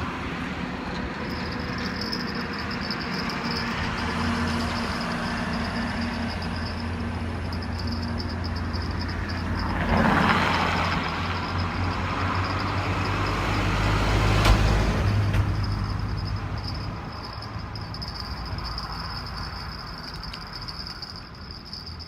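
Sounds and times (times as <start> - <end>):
insects trilling: 1.2 - 22.0
vehicle engine passing: 1.3 - 21.2.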